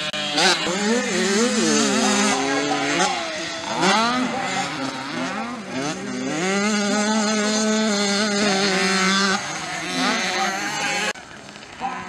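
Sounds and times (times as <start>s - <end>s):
two-stroke bike engine revving: 0.0s - 11.2s.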